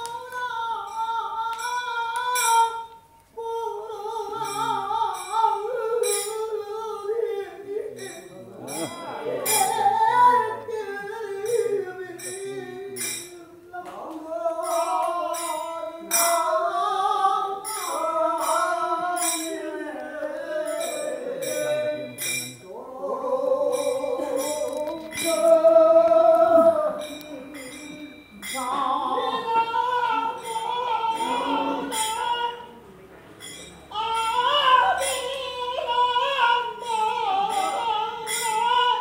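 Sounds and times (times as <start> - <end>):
hand cymbals: 0.0 - 13.7, 14.5 - 32.8, 33.4 - 39.0
men singing devotional chant: 0.0 - 32.8, 34.0 - 39.0.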